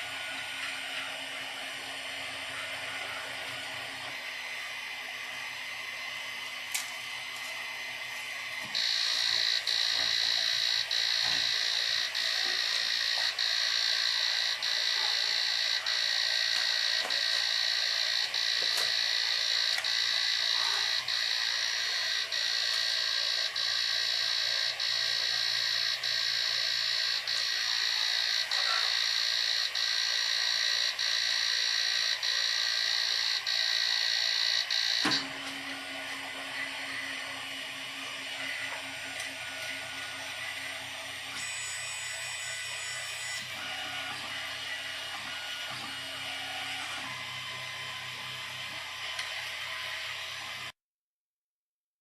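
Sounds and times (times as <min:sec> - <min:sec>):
three d printer whine: 0:00.0 - 0:50.7.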